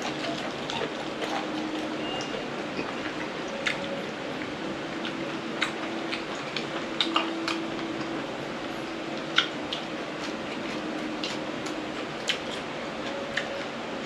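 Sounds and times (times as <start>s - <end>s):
wet chewing: 0.0s - 4.1s, 5.0s - 8.2s, 9.2s - 13.7s
low steady hum: 0.0s - 14.0s.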